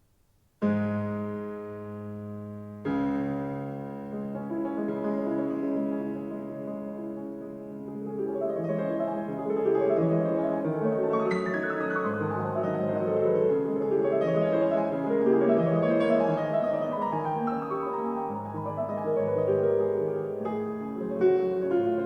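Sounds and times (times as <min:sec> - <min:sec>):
piano music over speakers: 0:00.6 - 0:22.0.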